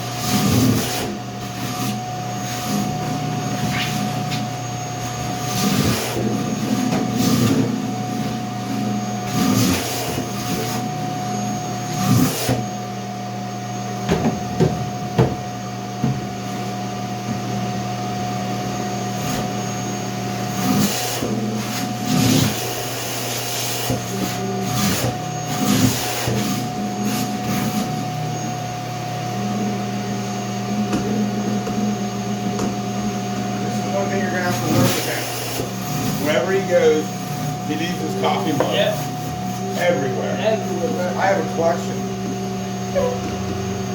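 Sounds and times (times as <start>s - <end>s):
motor hum: 0.0s - 43.9s.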